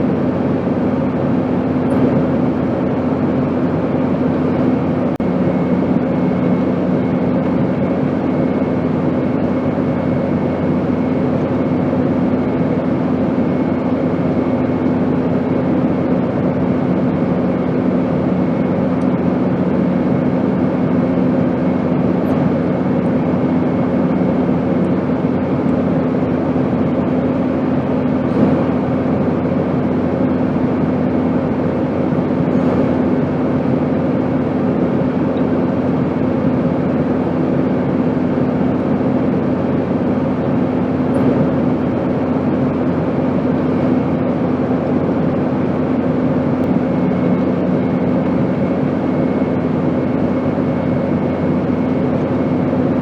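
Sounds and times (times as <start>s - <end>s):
airplane engine drone: 0.0s - 53.0s
steady hum tones: 0.0s - 53.0s.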